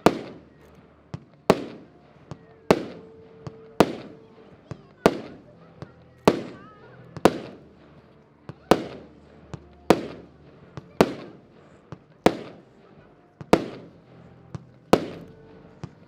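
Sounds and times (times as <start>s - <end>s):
firework bursts: 0.0s - 4.3s, 5.0s - 7.9s, 8.7s - 12.8s, 13.4s - 16.0s.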